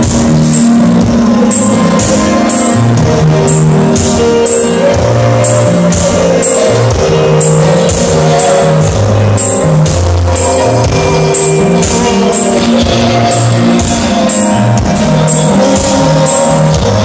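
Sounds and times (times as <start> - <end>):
electronic keyboard worship music: 0.0 - 17.0.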